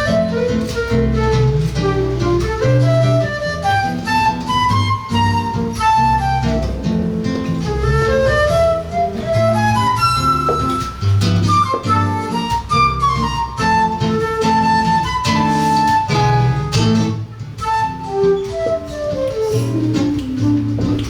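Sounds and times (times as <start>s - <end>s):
flute melody: 0.0s - 21.0s
plucked acoustic guitar: 0.0s - 21.0s.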